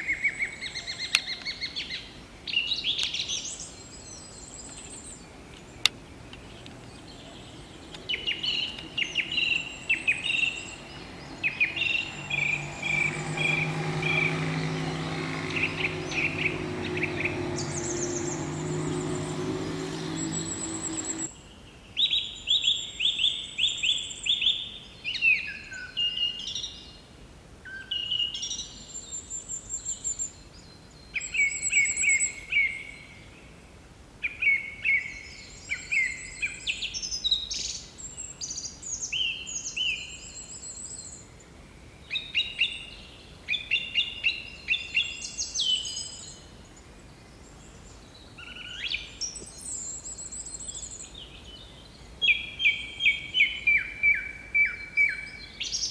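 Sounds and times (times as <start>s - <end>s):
bird song: 0.0s - 27.0s, 34.2s - 55.9s.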